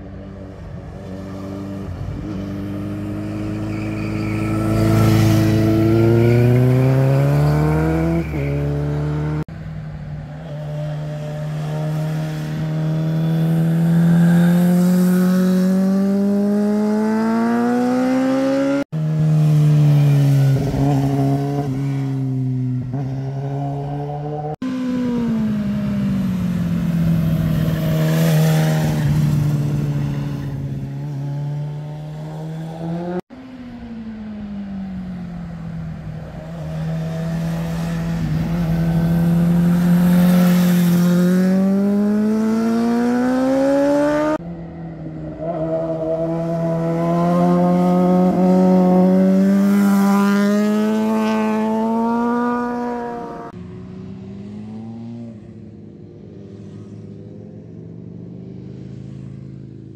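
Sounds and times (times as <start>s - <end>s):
motorcycle engine passing: 0.5s - 9.5s, 10.3s - 33.2s, 34.4s - 57.4s.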